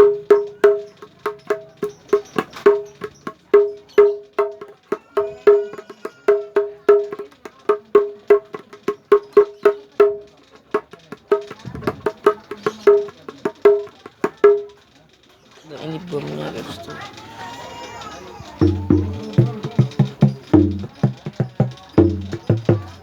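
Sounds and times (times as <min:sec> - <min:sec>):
hand drum rhythm: 0:00.0 - 0:14.8, 0:18.4 - 0:23.0.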